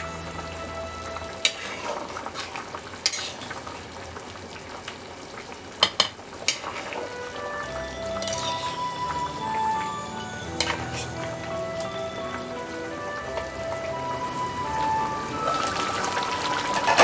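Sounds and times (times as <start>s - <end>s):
curry bubbling and sizzling: 0.0s - 17.0s.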